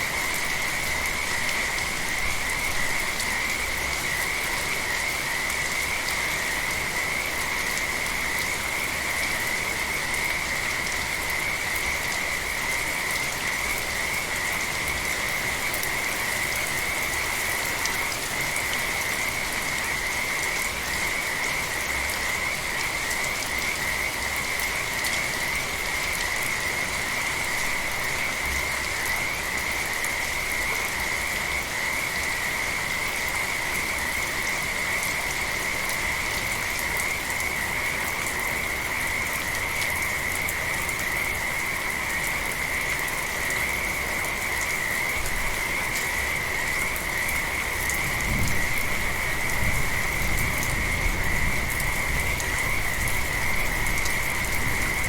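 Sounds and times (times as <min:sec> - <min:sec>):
gentle rain: 0:00.0 - 0:55.0.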